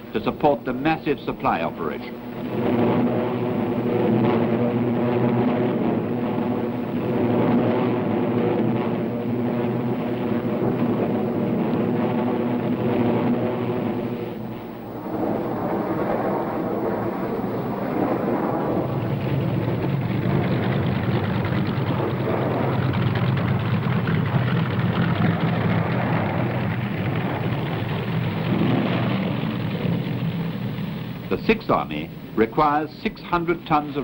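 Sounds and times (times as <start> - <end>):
deep heavy engine drone: 0.0 - 34.0
propeller aircraft engines droning: 0.0 - 34.0.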